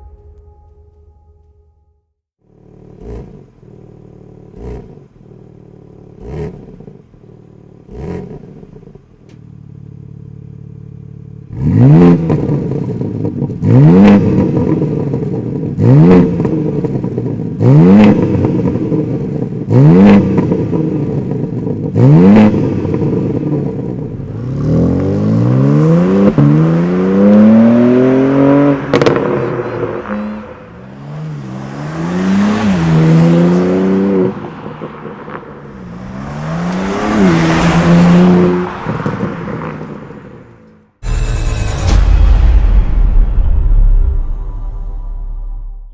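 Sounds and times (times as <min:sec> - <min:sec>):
car engine revving: 0:02.4 - 0:42.3
engine accelerating: 0:02.5 - 0:45.9.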